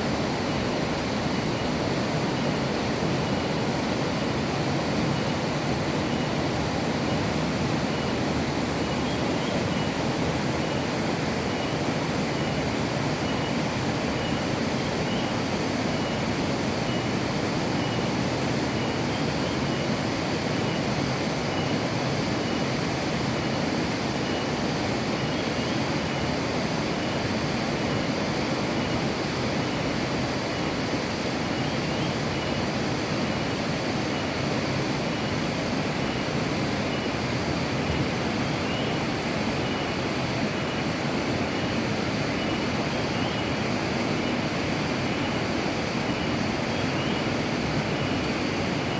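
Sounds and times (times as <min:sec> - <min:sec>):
steady rushing noise: 0:00.0 - 0:48.9.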